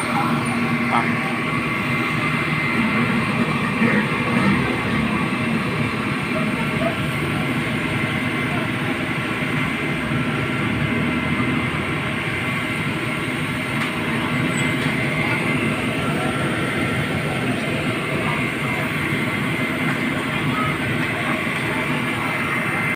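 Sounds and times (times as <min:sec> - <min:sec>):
fire truck engines droning: 0:00.0 - 0:22.9.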